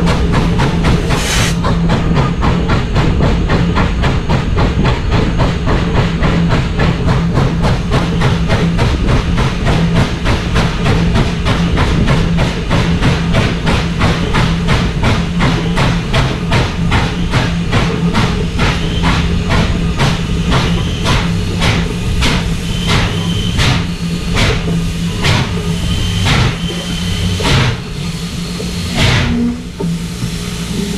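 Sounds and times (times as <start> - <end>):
steam locomotive chuffing: 0.0 - 30.9.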